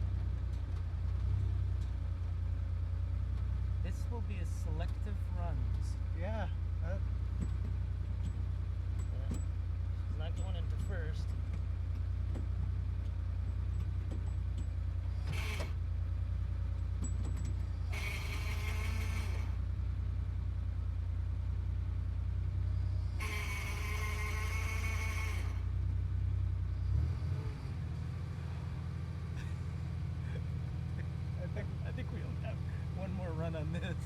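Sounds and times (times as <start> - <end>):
sports car engine droning: 0.0 - 34.0.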